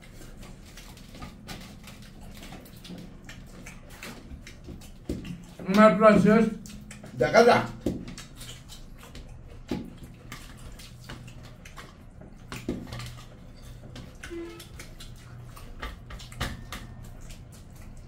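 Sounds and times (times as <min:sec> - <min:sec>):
chewing and lip-smacking: 0:00.0 - 0:18.0
hands squelching food on plates: 0:00.0 - 0:18.0.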